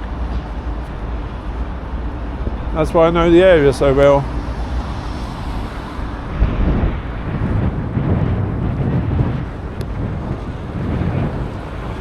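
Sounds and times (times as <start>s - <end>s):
city background rumble: 0.0s - 12.0s
wind buffeting microphone: 0.0s - 12.0s.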